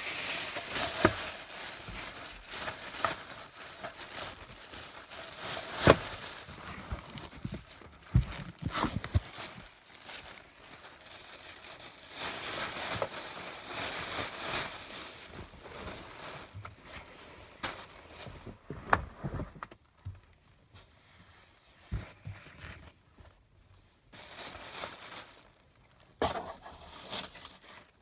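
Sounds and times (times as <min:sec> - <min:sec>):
rustling and crinkling of trash: 0:00.0 - 0:21.0, 0:21.9 - 0:28.0.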